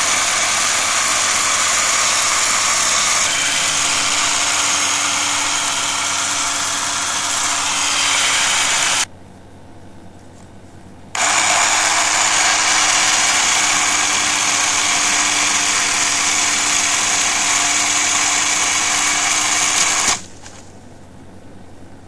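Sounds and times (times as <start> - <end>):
chainsaw cutting through tree trunk: 0.0 - 9.1, 11.2 - 20.4.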